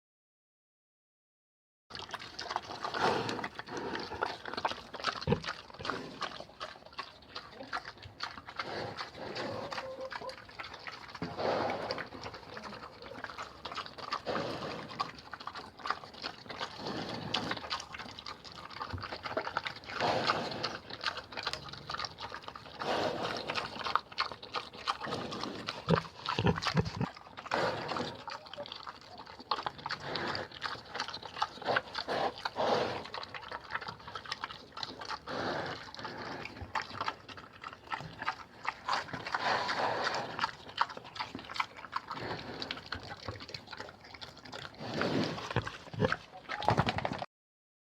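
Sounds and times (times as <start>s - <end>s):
pig chewing and smacking: 1.9s - 47.3s.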